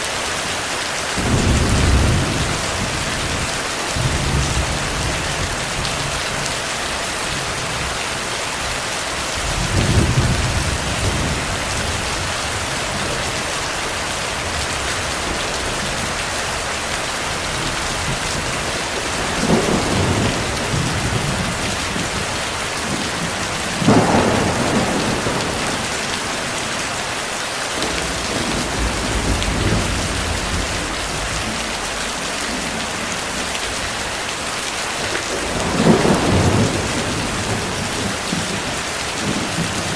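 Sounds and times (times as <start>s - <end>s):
heavy rain: 0.0s - 39.9s
thunder rumbling: 1.2s - 8.0s, 9.3s - 27.2s, 27.8s - 39.9s.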